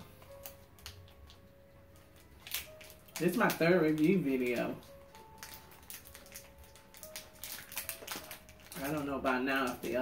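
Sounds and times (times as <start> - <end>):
faint background music: 0.0 - 10.0
plastic wrapper crinkling: 0.0 - 10.0.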